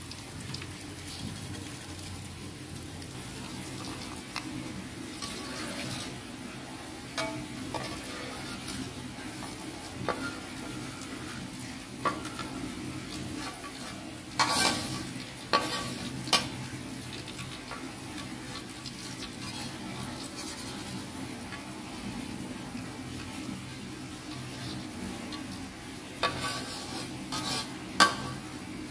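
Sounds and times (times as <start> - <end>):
food sizzling in a frying pan: 0.0 - 28.9
utensil scraping pan: 3.6 - 22.2, 23.1 - 28.5.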